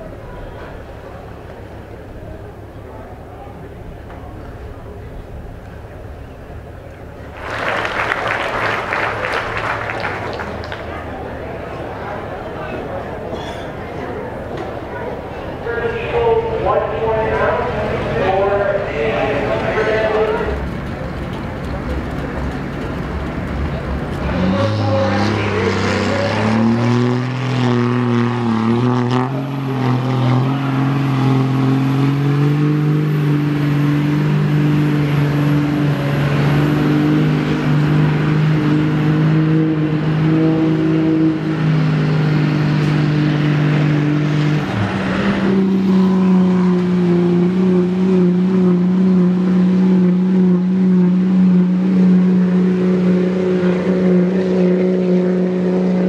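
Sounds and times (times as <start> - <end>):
diesel engine running high: 0.0 - 56.0
truck engine at full throttle: 0.0 - 56.0.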